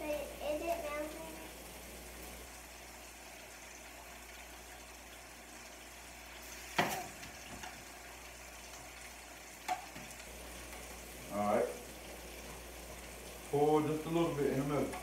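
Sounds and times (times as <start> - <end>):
food sizzling in pans: 0.0 - 15.0.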